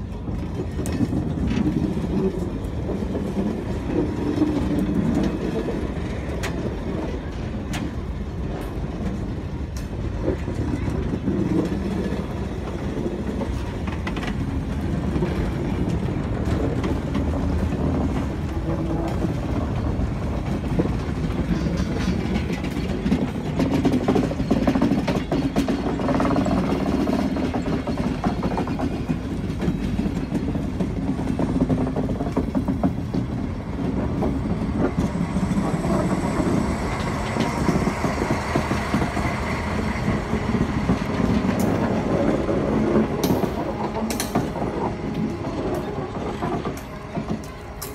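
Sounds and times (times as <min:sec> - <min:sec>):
diesel locomotive: 0:00.0 - 0:47.9
train wheels rumbling on rails: 0:00.0 - 0:47.9.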